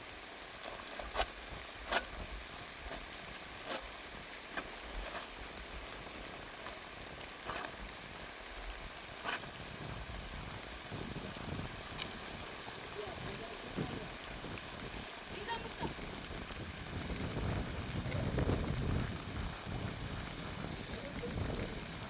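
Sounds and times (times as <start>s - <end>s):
rain hiss: 0.0s - 22.0s
raindrops tapping: 0.4s - 22.0s.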